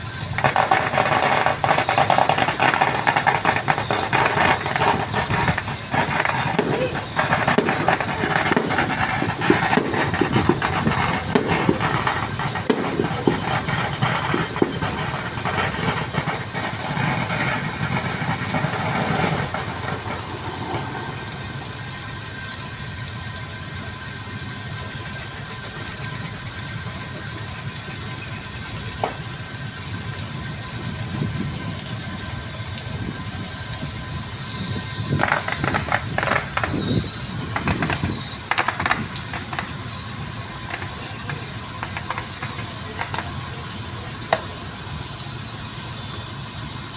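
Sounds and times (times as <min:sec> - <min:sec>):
boat engine running: 0:00.0 - 0:46.9.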